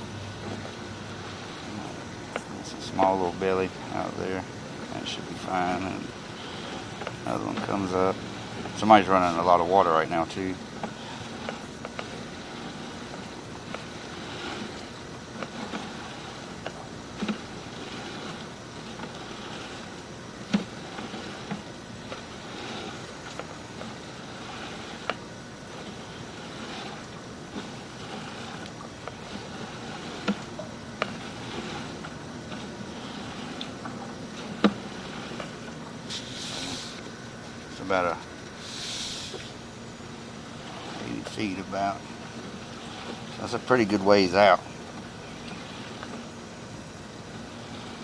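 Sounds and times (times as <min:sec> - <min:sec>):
water rushing through a pipe: 0:00.0 - 0:48.0.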